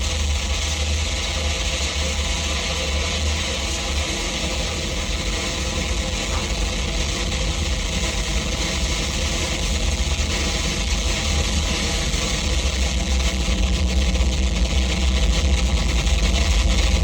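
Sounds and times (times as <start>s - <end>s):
distorted noise music: 0.0s - 17.0s
heavy low rumble: 0.0s - 17.0s.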